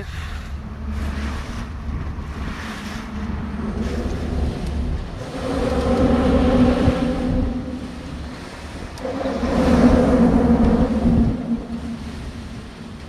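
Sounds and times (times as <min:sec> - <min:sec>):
wind on microphone: 0:00.0 - 0:13.0
boat motor running: 0:00.7 - 0:13.0
loud engine drone: 0:00.8 - 0:13.0.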